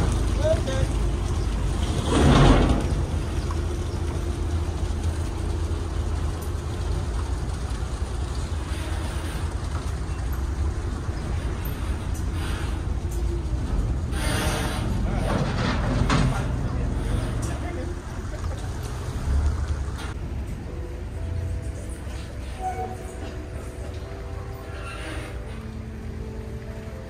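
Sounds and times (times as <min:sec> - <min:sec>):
ferry engine idling: 0:00.0 - 0:27.0.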